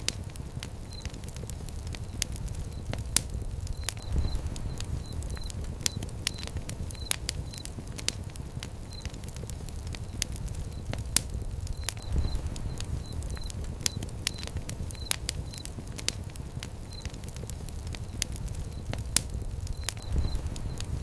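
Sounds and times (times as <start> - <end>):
fire crackling and popping: 0.0 - 21.0
low rumble of flame: 0.0 - 21.0.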